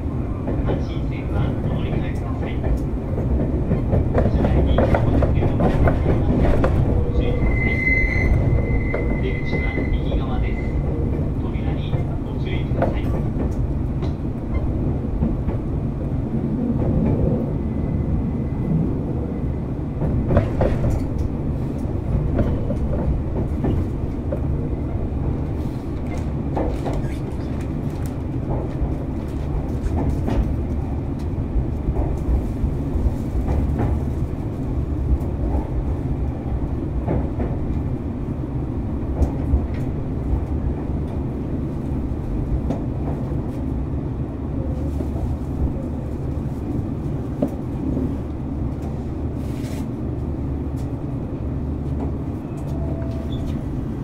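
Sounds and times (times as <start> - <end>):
rail joint clicks: 0.0 - 54.0
train wheels rumbling on track: 0.0 - 54.0.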